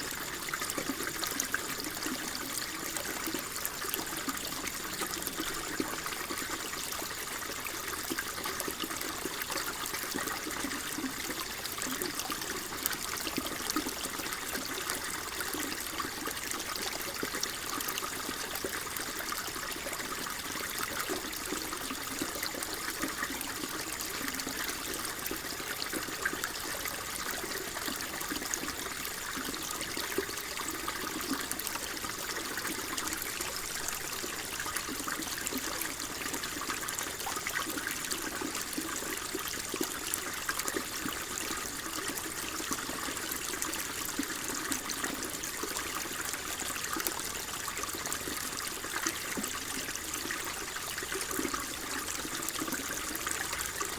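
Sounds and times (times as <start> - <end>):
water flowing and trickling: 0.0 - 53.9.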